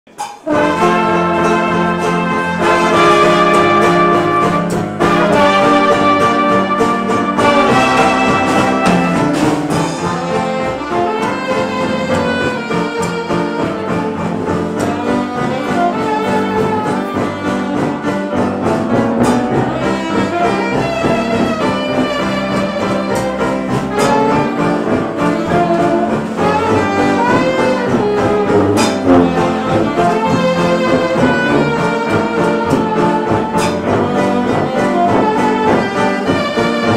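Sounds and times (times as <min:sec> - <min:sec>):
jazz band playing: 0:00.1 - 0:36.9.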